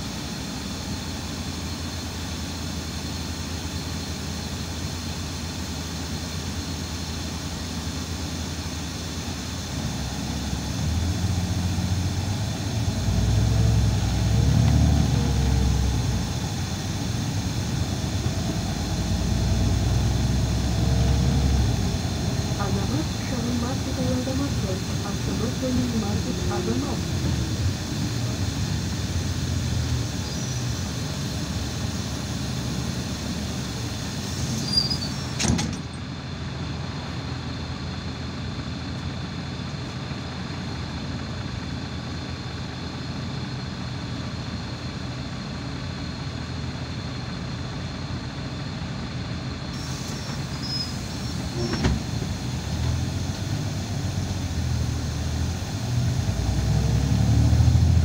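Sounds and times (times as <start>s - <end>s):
bus engine low rumble: 0.0s - 58.0s.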